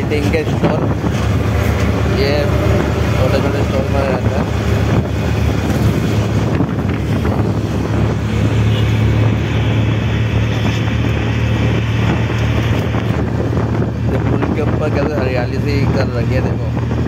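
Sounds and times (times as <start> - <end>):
auto-rickshaw engine running: 0.0 - 17.0
wind rushing past microphone: 0.0 - 17.0.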